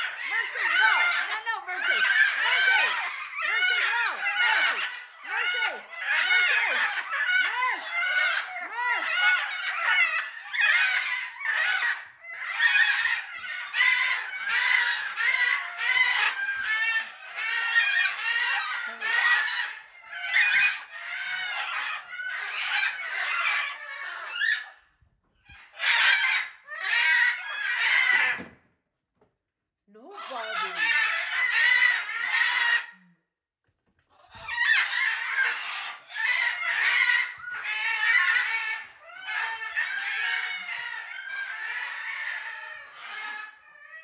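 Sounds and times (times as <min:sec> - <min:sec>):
macaws squawking: 0:00.0 - 0:24.8, 0:25.5 - 0:28.5, 0:30.0 - 0:33.0, 0:34.1 - 0:44.0.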